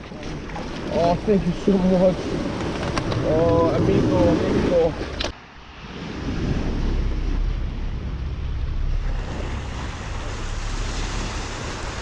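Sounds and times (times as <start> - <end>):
sea waves washing: 0.0 - 12.0
wind buffeting microphone: 0.8 - 12.0.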